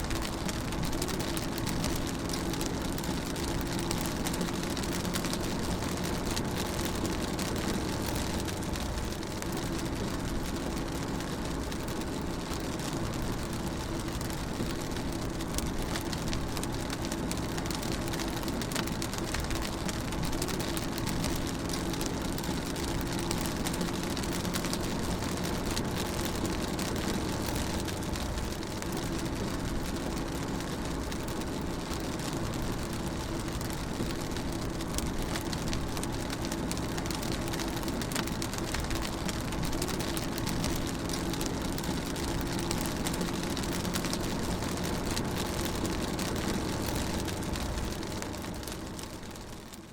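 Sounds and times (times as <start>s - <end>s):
rain on a car: 0.0s - 49.9s.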